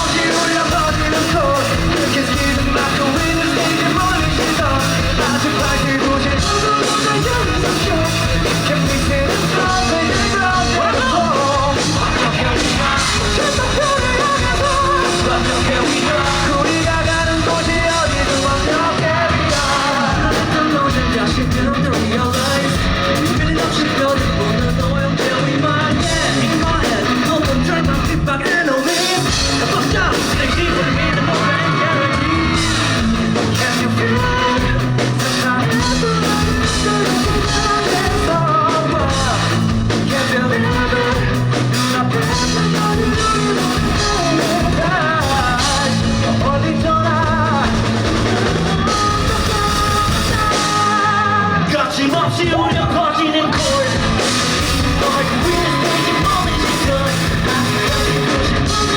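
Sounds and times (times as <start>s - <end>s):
live rock band: 0.0s - 58.9s
person singing and shouting: 0.0s - 58.9s.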